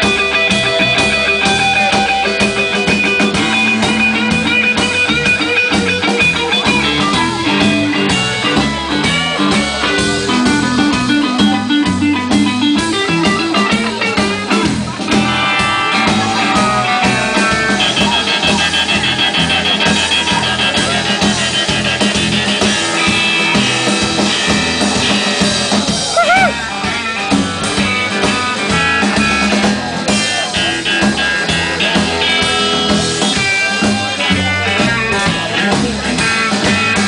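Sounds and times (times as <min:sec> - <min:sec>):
bass guitar: 0:00.0 - 0:37.0
drum kit: 0:00.0 - 0:37.0
electric guitar lines: 0:00.0 - 0:37.0.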